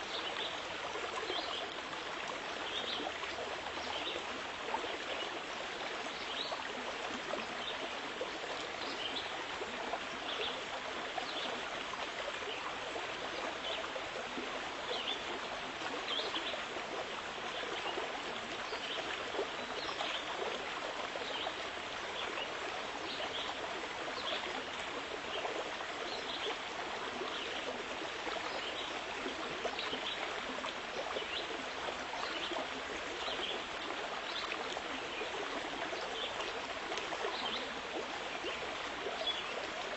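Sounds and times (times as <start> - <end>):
small water splashes: 0.0 - 39.9
stream flowing: 0.0 - 39.9.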